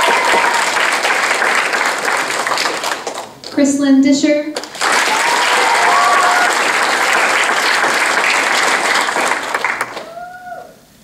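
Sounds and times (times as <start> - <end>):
audience applauding: 0.0 - 3.6, 4.6 - 10.6.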